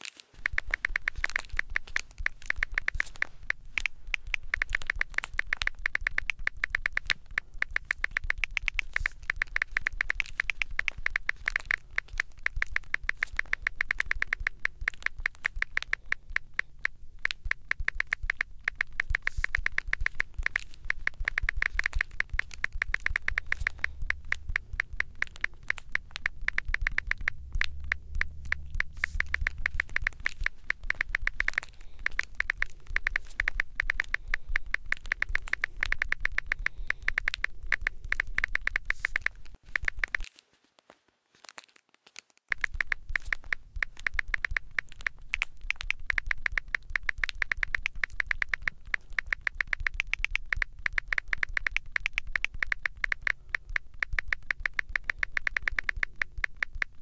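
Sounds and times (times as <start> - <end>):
fast sharp clicks: 0.0 - 40.3, 42.5 - 57.0.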